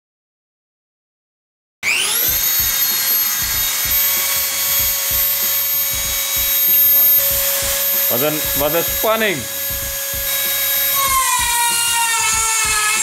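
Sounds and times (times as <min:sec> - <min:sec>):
rotary tool whining engraving wood: 0:01.8 - 0:13.0.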